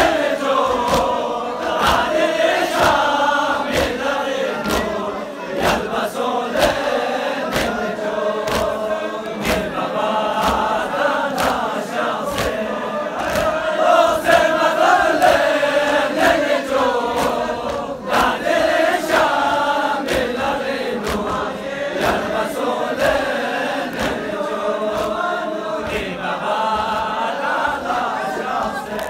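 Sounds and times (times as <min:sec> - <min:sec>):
hands slapping chests: 0:00.0 - 0:05.0, 0:05.6 - 0:29.0
crowd of men chanting: 0:00.0 - 0:29.0.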